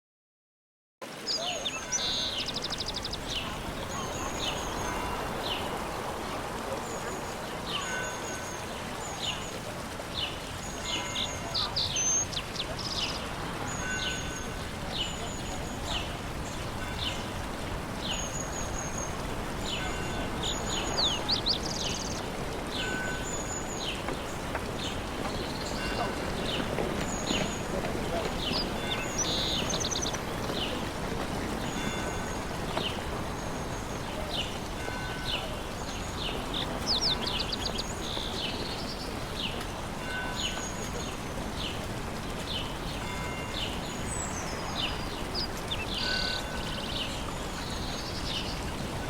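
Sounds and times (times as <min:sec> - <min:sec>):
small birds chirping: 0:01.2 - 0:49.0.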